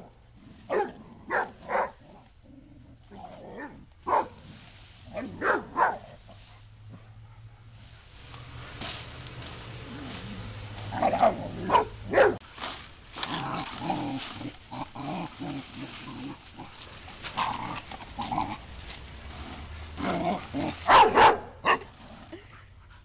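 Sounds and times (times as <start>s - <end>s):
puppies barking and growling: 0.0s - 8.5s, 9.6s - 12.4s, 13.2s - 22.5s.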